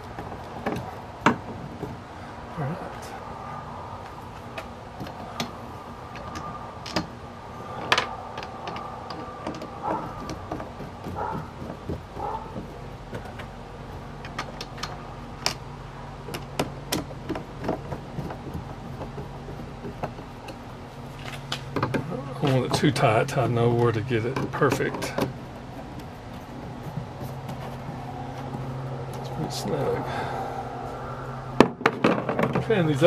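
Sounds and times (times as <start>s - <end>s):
background hum: 0.0s - 33.0s.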